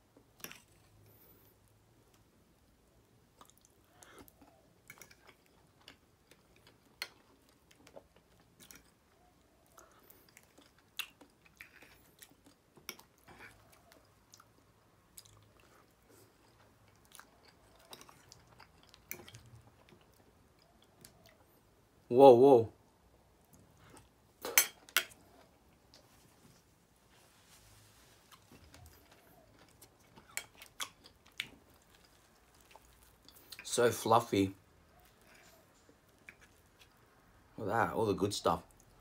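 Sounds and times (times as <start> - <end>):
chewing and wet mouth sounds: 0.1 - 22.1, 23.1 - 26.6, 27.6 - 33.8, 34.6 - 37.5.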